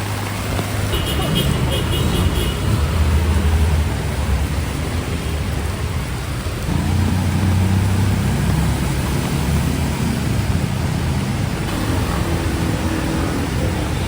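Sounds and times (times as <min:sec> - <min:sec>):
heavy rain falling: 0:00.0 - 0:14.0
vehicle engine rumbling: 0:00.0 - 0:14.0.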